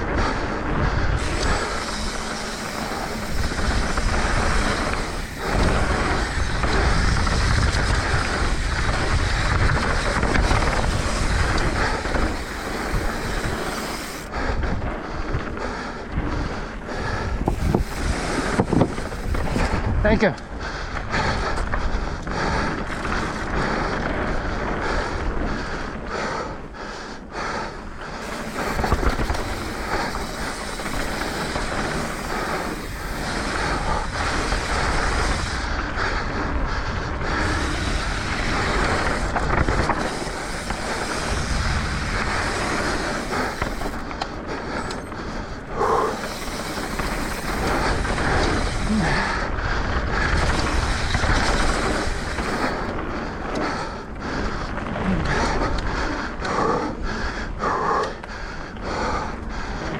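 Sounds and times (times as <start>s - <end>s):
tyre noise on dirt: 0.0s - 20.4s, 28.1s - 56.2s
bike rattling: 0.0s - 59.9s
wind buffeting microphone: 0.0s - 59.9s.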